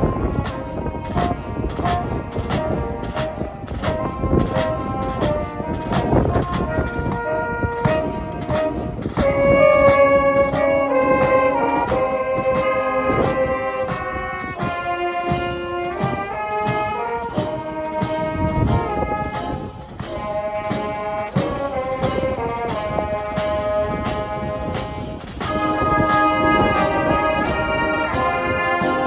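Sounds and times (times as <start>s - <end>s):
brass band playing: 0.0s - 29.0s
drum kit beat: 0.0s - 29.0s.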